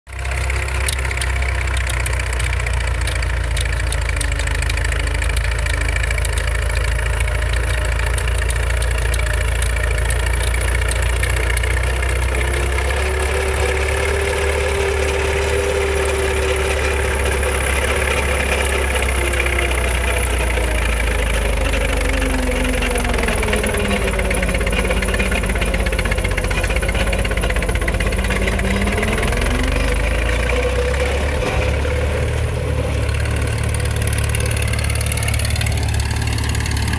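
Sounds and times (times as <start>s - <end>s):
tractor engine running under load: 0.1s - 36.9s.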